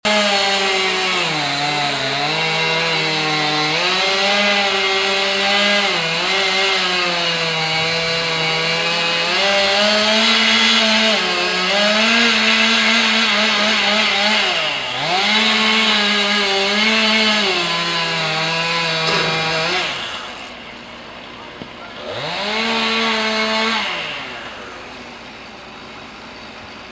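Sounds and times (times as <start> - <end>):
chainsaw cutting wood: 0.0 - 20.7, 21.6 - 26.3.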